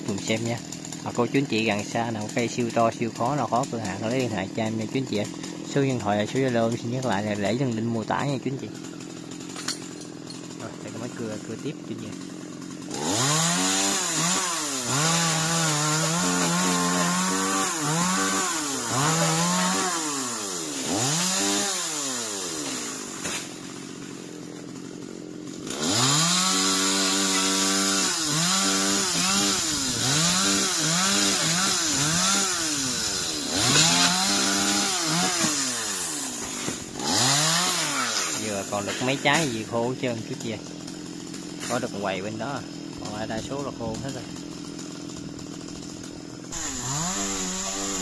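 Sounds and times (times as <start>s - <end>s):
chainsaw revving: 0.0s - 48.0s.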